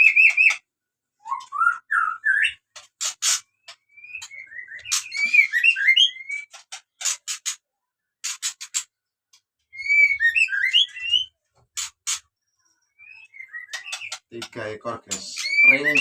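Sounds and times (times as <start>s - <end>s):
caged birds whistling and chirping: 0.0s - 8.9s, 9.6s - 16.0s.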